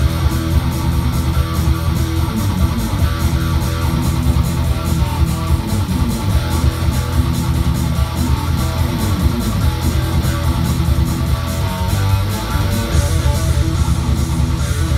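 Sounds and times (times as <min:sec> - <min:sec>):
electric guitar riff: 0:00.0 - 0:14.9.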